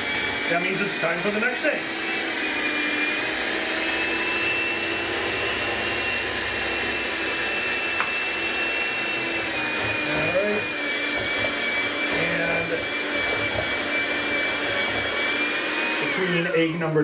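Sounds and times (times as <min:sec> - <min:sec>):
stand mixer whining: 0:00.0 - 0:17.0.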